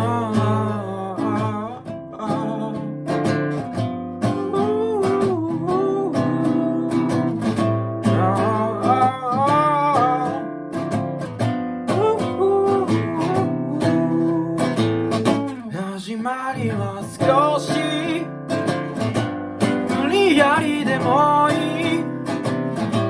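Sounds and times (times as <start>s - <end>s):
person singing: 0.0s - 3.3s, 4.2s - 10.5s, 11.9s - 18.8s, 19.8s - 23.0s
acoustic guitar strumming: 0.0s - 23.0s.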